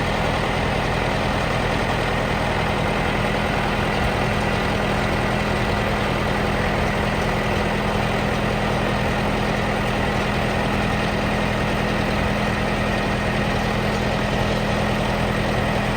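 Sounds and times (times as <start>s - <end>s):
diesel engine idling: 0.0s - 15.9s.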